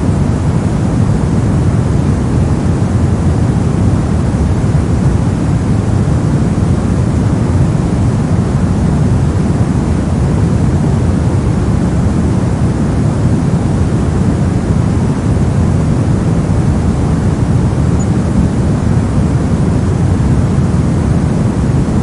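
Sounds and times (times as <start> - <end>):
white noise hiss: 0.0 - 22.0.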